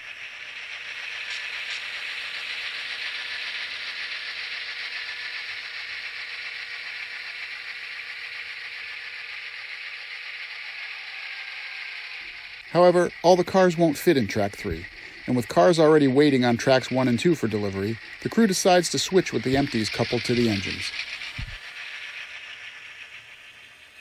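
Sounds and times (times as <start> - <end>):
model train wheels rattling: 0.0 - 24.0.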